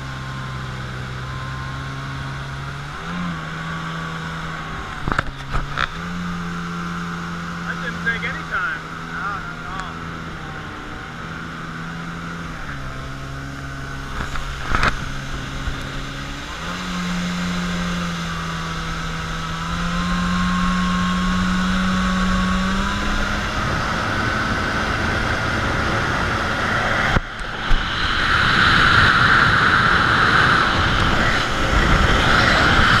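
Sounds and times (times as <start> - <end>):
jet ski engine revving: 0.0 - 33.0
rushing noise of craft at speed: 3.0 - 33.0.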